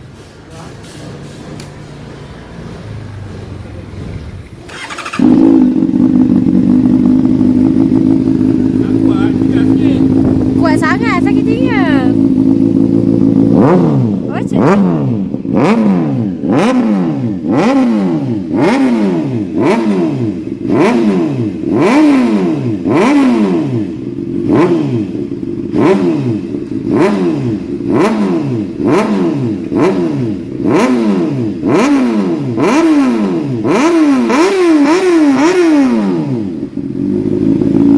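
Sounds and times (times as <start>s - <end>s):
motorcycle engine revving: 0.2s - 37.9s.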